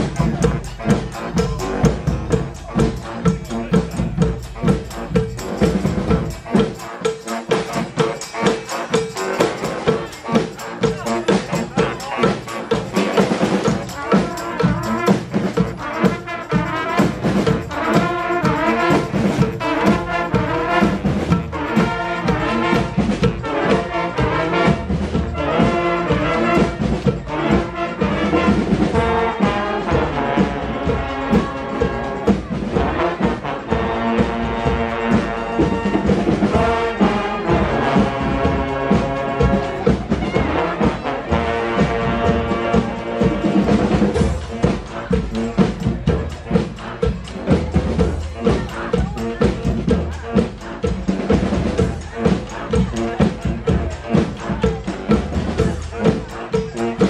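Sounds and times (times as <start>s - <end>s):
steady drum beat: 0.0s - 57.0s
trombones: 0.0s - 57.0s
trumpets: 0.0s - 57.0s.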